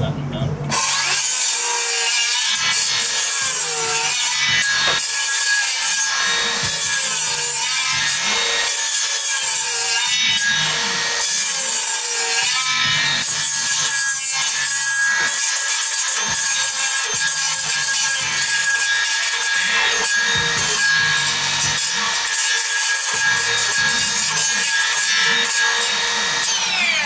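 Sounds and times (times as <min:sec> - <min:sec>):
circular saw cutting wood: 0:00.7 - 0:27.0.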